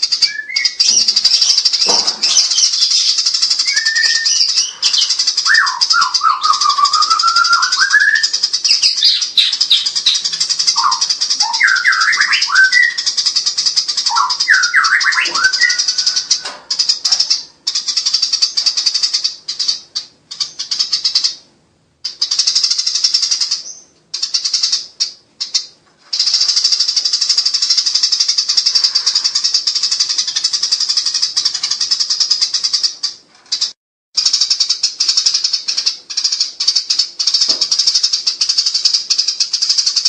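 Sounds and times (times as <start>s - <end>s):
sparrows chattering harshly: 0.0s - 40.0s.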